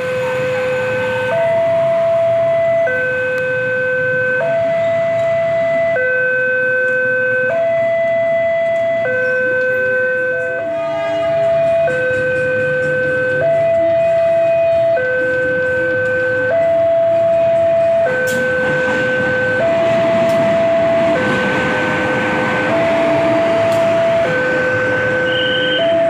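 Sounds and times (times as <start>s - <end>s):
level crossing alarm two-tone: 0.0s - 10.8s, 11.4s - 26.0s.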